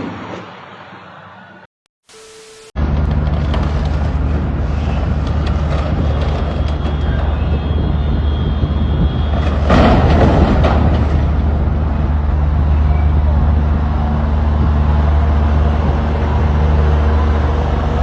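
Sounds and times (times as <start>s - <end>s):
vehicle engine running: 2.8s - 18.0s.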